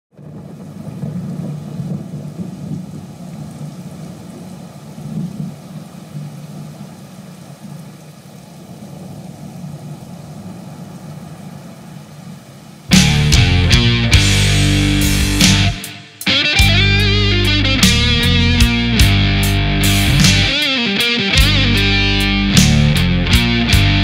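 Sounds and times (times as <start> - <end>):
low rolling rumble: 0.1 - 15.8, 16.6 - 20.6
steady hiss: 0.2 - 24.0.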